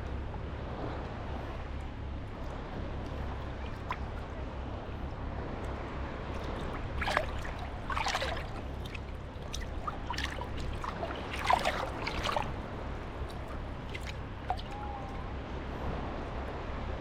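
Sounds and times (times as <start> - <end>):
small waves lapping at shore: 0.0 - 17.0.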